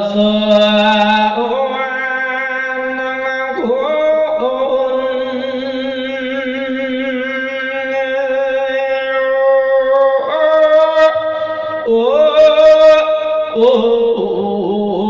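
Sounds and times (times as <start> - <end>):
man singing with vibrato: 0.0 - 15.0.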